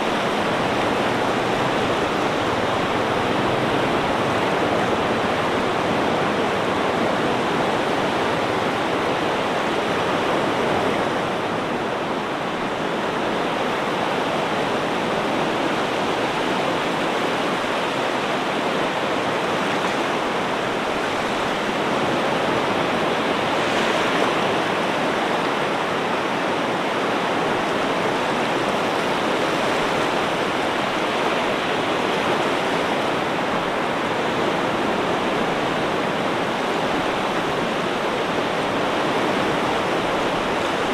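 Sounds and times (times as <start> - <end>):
ocean surf: 0.0 - 40.9.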